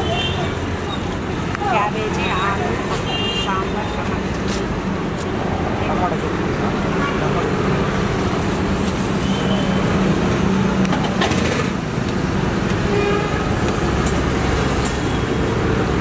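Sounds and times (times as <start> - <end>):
passing traffic: 0.0 - 16.0.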